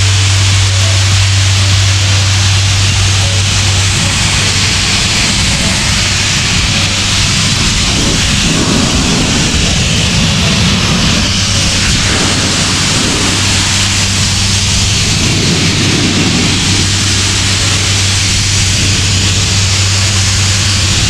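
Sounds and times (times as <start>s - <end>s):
air compressor humming: 0.0s - 21.0s
compressed air hissing: 0.0s - 21.0s.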